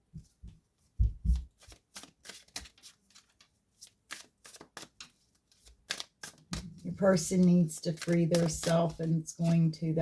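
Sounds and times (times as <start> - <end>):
cards flicking and snapping: 1.3 - 9.7.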